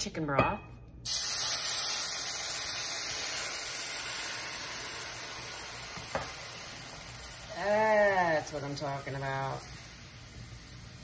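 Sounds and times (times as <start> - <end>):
broth sizzling in a hot skillet: 1.0 - 11.0.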